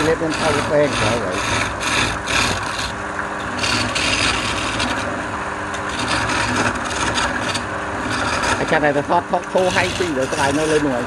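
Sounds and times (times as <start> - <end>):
lathe motor humming: 0.0 - 11.0
tool rasping on spinning wood: 0.0 - 11.0.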